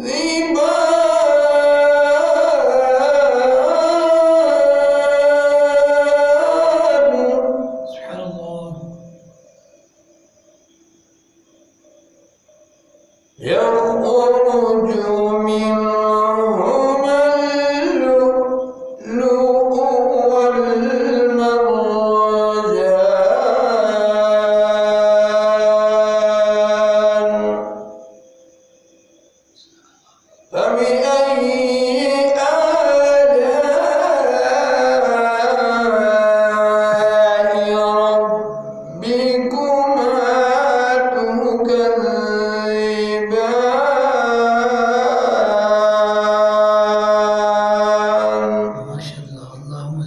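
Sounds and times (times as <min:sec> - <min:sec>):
man chanting melodically: 0:00.0 - 0:10.6, 0:13.2 - 0:28.5, 0:29.5 - 0:50.0.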